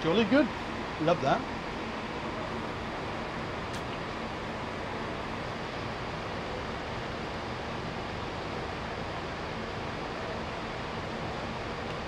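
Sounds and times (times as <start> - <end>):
train engine and ventilation hum: 0.0 - 12.0.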